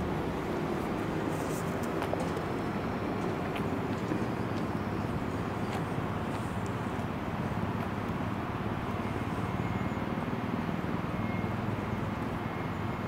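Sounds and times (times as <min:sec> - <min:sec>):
tram ventilation hum: 0:00.0 - 0:13.0.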